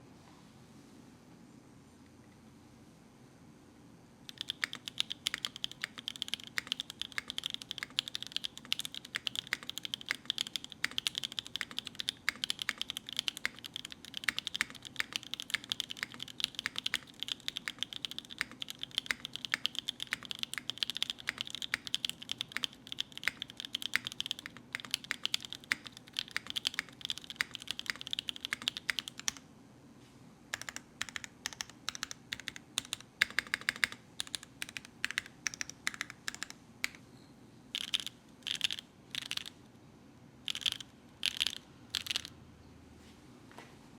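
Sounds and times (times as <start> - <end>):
fast typing on mechanical keyboard: 4.3 - 29.4, 30.5 - 37.0, 37.8 - 39.6, 40.5 - 42.4.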